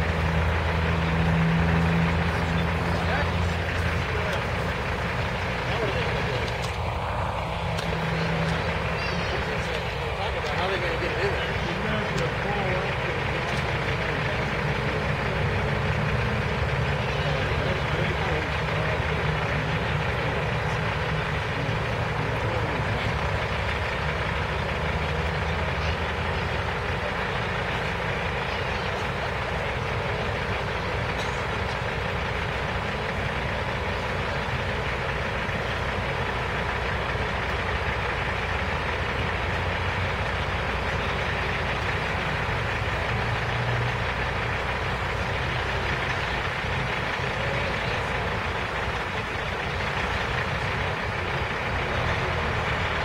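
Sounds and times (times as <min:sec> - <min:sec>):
truck diesel engine idling: 0:00.0 - 0:53.0.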